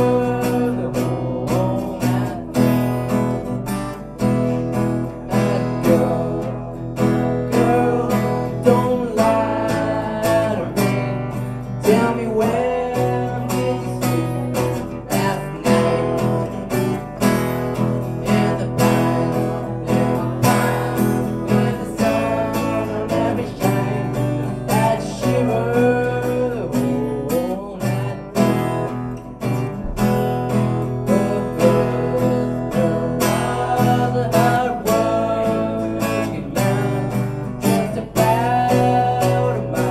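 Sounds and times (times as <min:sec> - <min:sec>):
man singing into microphone: 0:00.0 - 0:03.1, 0:05.0 - 0:16.7, 0:18.2 - 0:29.0, 0:30.6 - 0:39.9
acoustic guitar strumming: 0:00.0 - 0:39.9.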